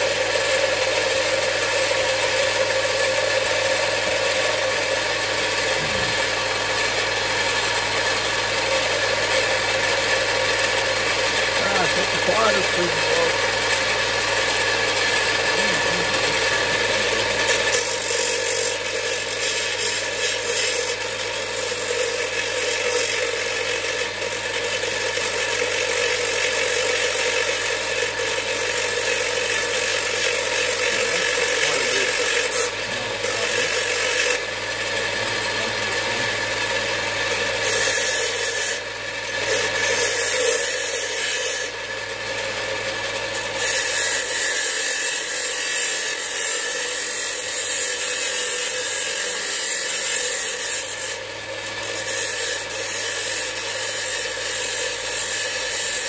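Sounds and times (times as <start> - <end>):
grinder motor humming: 0.0 - 56.0
metal grinding rasp: 0.0 - 56.0.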